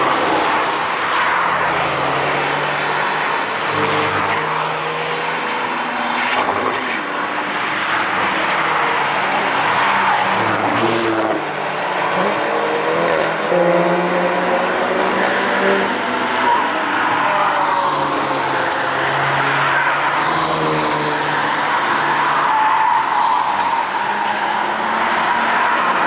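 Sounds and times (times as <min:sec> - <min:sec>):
cars passing by: 0:00.0 - 0:26.0.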